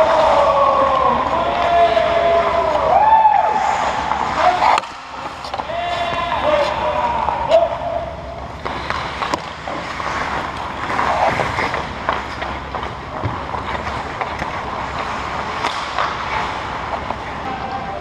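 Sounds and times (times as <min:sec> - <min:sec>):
clicks of sticks and pucks: 0:00.0 - 0:18.0
skates scraping on ice: 0:00.0 - 0:18.0.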